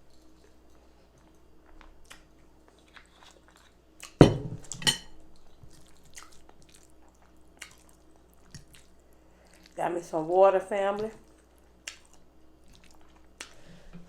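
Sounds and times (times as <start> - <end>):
chewing: 0.0 - 4.2, 5.3 - 9.8, 11.0 - 13.8.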